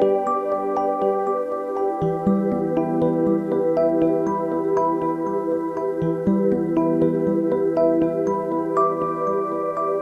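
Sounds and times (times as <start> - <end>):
gentle new-age music: 0.0 - 10.0.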